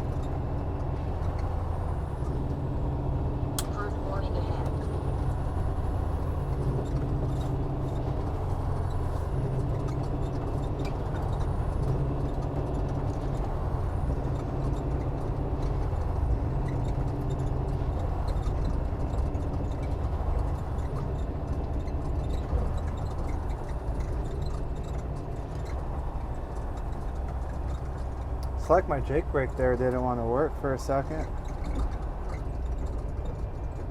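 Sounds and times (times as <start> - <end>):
diesel truck engine braking: 0.0 - 33.9.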